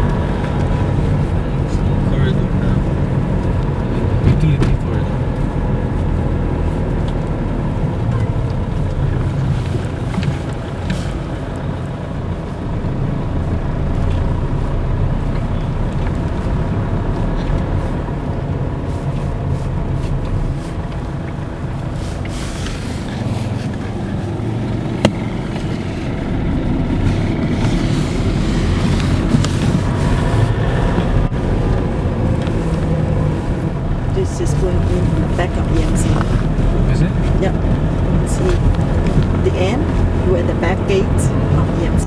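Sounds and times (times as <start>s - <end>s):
car engine and tyres rumbling: 0.0s - 42.0s.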